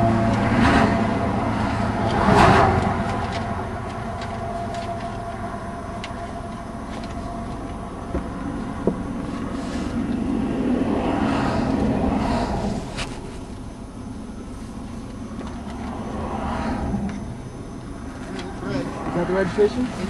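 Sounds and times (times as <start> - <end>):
vehicle rumble from inside cabin: 0.0 - 20.0.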